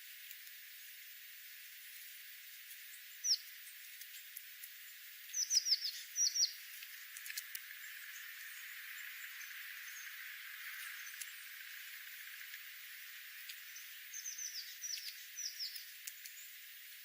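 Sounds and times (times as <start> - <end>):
background hiss: 0.0 - 17.0
small bird chirping: 2.6 - 17.0.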